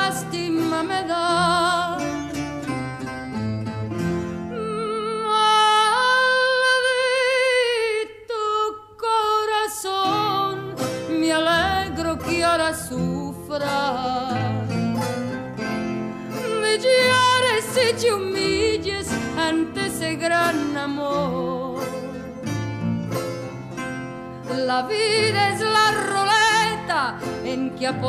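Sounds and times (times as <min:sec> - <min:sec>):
slow song with guitar: 0:00.0 - 0:28.0.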